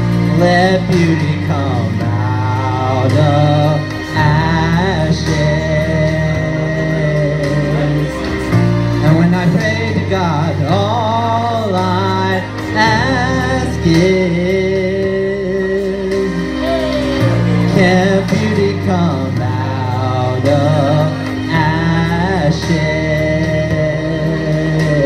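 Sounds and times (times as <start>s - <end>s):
karaoke backing track: 0.0s - 25.0s
man singing into microphone: 0.0s - 25.0s.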